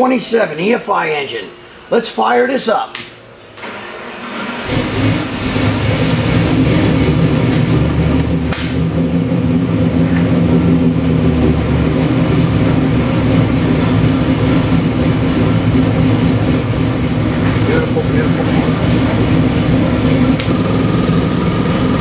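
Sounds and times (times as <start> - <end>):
engine starting and running: 3.6 - 22.0.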